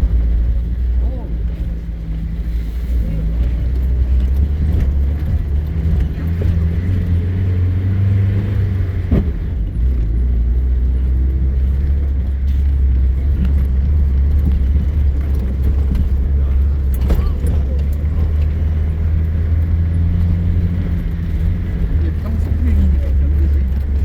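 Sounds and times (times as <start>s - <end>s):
off-road vehicle engine drone: 0.0s - 24.0s.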